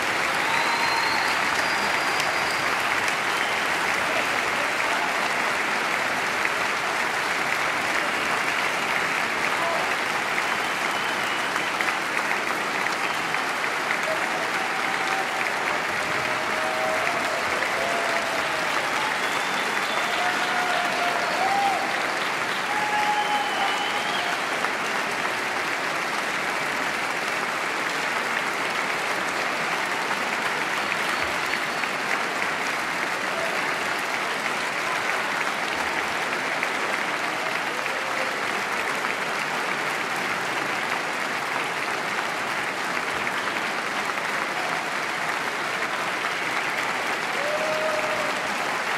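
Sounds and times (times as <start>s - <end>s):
audience applauding: 0.0s - 48.9s
people cheering: 0.0s - 48.9s.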